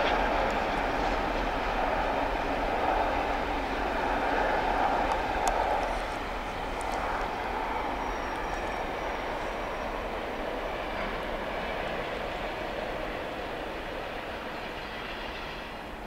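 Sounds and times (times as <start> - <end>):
distant steam train rolling by: 0.0 - 16.0.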